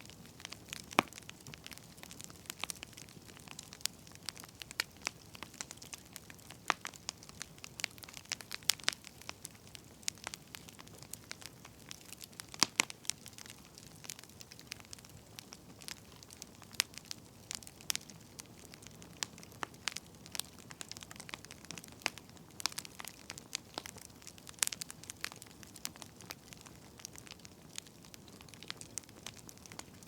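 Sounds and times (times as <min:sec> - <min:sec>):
faint steady hiss: 0:00.0 - 0:30.0
firewood crackling and popping: 0:00.0 - 0:30.0.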